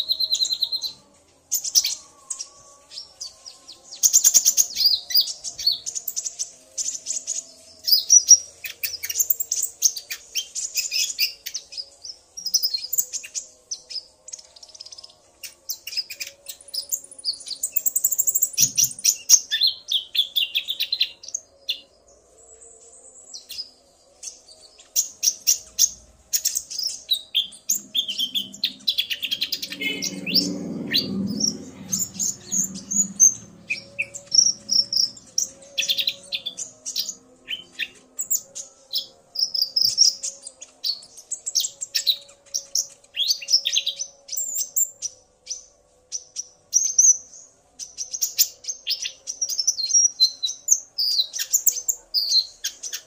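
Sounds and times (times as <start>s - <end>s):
sunbirds chirping and trilling: 0.0s - 53.0s.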